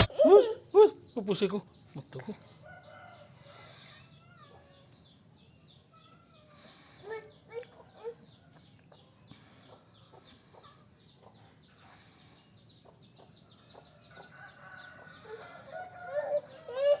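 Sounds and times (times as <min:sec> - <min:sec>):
chickens chirping and clucking: 0:00.0 - 0:17.0.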